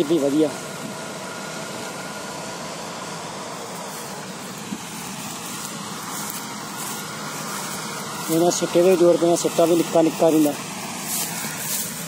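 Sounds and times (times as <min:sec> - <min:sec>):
harvester engine droning: 0:00.0 - 0:12.0.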